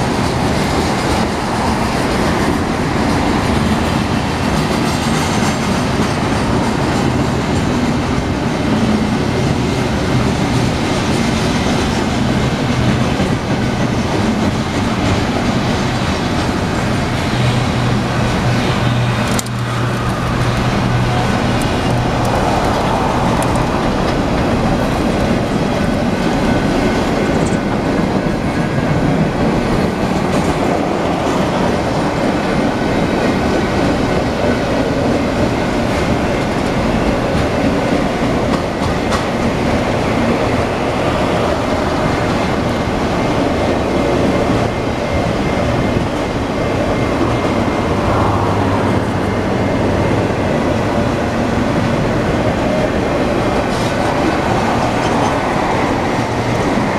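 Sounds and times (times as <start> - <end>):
freight train rumbling: 0.0 - 56.9.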